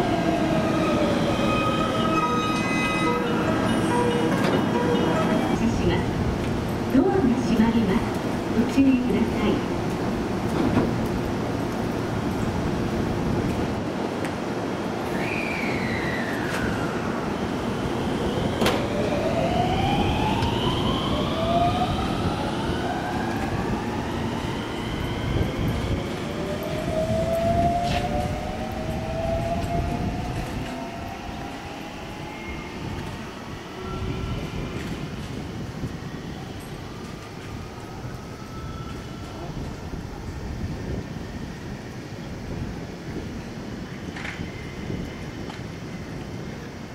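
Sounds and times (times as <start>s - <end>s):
train cars rumbling: 0.0s - 46.9s.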